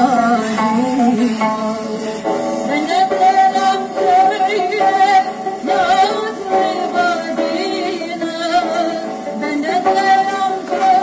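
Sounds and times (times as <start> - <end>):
soprano singing folk song: 0.0 - 11.0
sustained instrumental accompaniment: 0.0 - 11.0.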